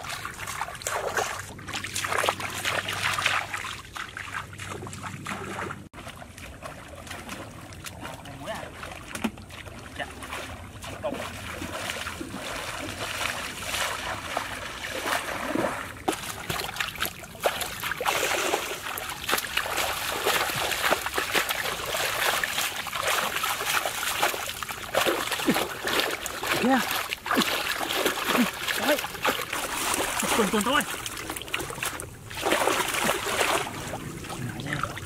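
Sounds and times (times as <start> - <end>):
river water splashing: 0.0 - 35.0.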